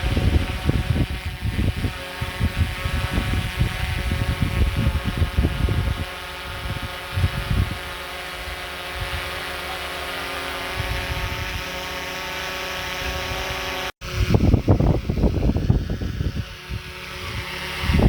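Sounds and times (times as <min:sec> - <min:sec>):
wind buffeting microphone: 0:00.0 - 0:09.4, 0:10.7 - 0:11.9, 0:12.7 - 0:18.0
engine running: 0:00.0 - 0:18.0.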